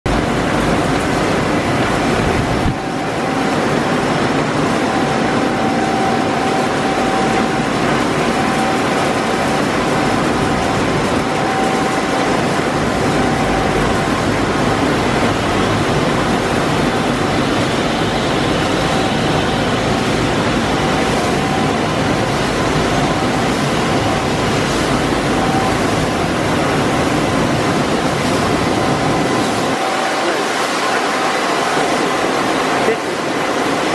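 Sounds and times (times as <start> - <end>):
industrial machinery running: 0.1 - 33.9
thin steady whine: 0.1 - 33.9.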